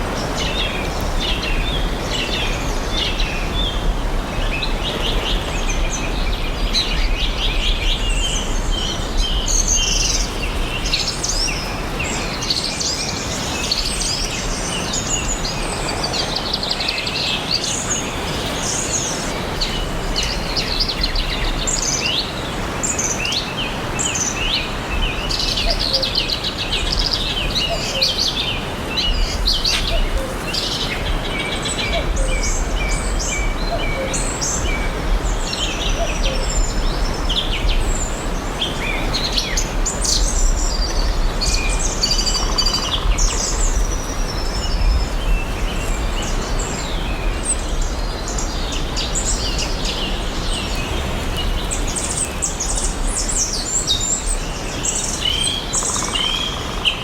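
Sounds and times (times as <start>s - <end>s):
forest birds chirping and singing: 0.0s - 57.0s.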